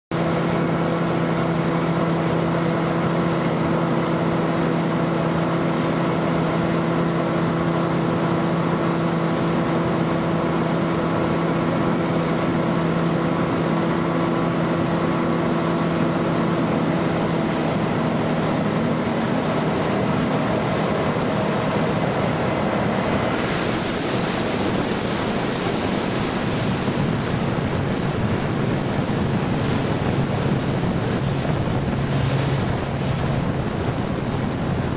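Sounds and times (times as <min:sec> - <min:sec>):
boat diesel engine running: 0:00.1 - 0:34.9
water and wind hiss: 0:00.2 - 0:34.9.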